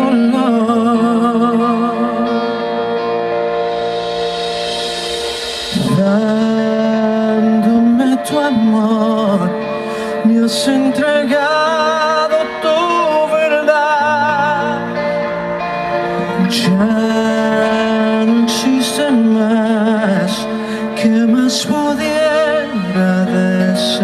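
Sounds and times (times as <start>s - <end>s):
live band playing a ballad: 0.0s - 24.0s.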